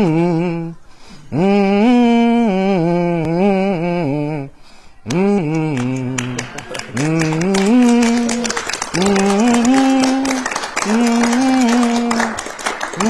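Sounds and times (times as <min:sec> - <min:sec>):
person humming a tune: 0:00.0 - 0:13.0.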